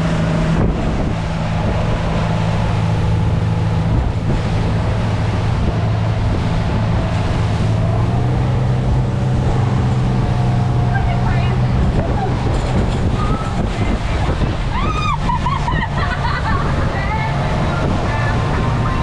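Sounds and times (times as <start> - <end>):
motorboat engine running: 0.0 - 19.0
water rushing past hull: 0.0 - 19.0
wind on microphone: 0.0 - 19.0.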